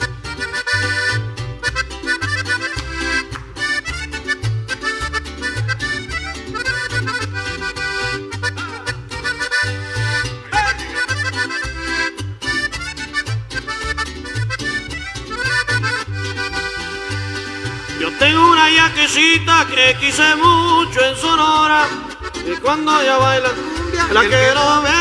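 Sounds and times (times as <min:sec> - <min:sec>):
bass line: 0:00.0 - 0:25.0
melody instrument: 0:00.0 - 0:25.0.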